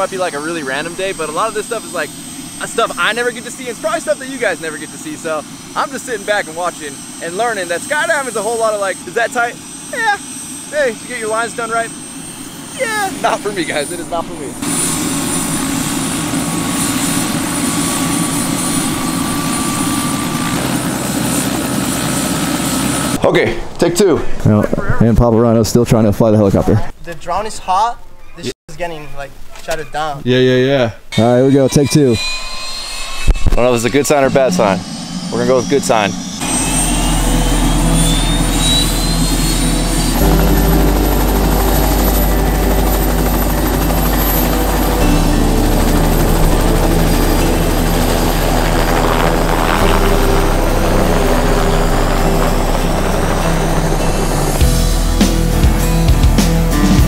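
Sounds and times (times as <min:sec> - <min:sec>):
helicopter rotor chop: 0:00.0 - 0:23.8, 0:33.5 - 0:56.8
turbine engine whine: 0:00.0 - 0:24.1, 0:31.0 - 0:56.9.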